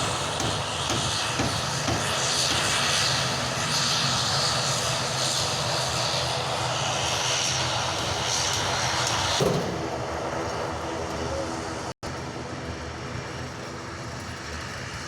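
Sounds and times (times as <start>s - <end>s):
airplane engines: 0.0s - 15.0s.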